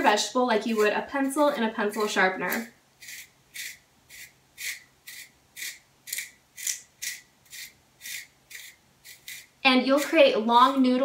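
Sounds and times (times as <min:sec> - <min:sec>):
spiral slicer cutting carrot: 0:00.6 - 0:10.8.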